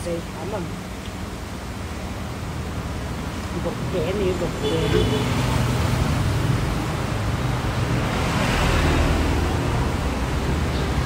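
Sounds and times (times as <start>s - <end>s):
steady rushing noise: 0.4s - 11.0s.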